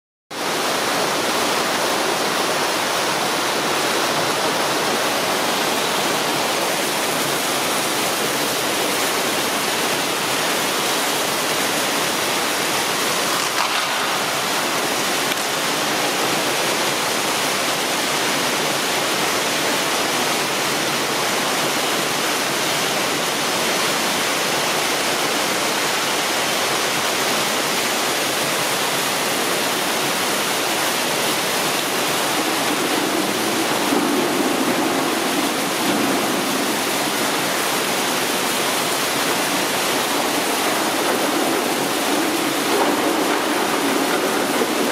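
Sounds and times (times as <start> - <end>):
water cascade splashing: 0.3 - 44.9.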